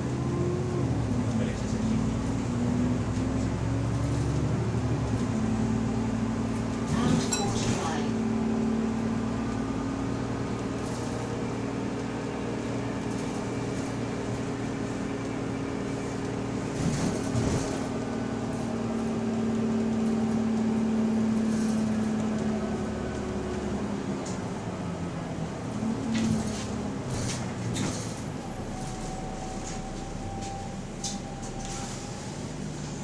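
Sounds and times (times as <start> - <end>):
bus drivetrain whine: 0.0 - 33.0.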